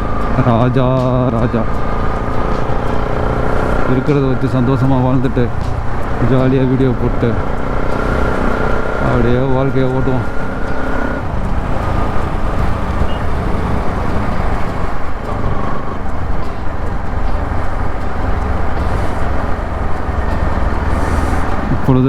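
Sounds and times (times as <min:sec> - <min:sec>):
motorcycle road noise: 0:00.0 - 0:22.0.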